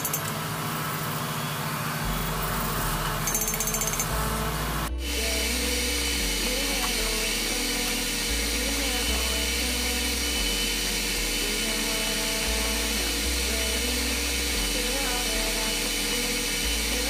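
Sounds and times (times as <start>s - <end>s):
faint background music: 2.0s - 17.0s.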